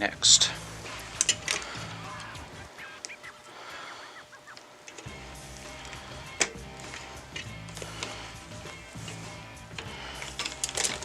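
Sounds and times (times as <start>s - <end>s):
background music: 0.0s - 11.0s
faint clicks: 0.9s - 11.0s.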